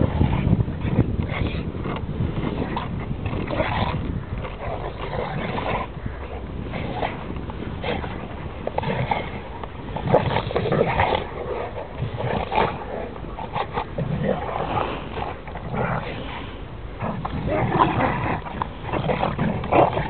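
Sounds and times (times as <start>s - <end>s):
dogs vocalising while play-fighting: 0.0s - 20.0s
low rumble: 0.0s - 20.0s.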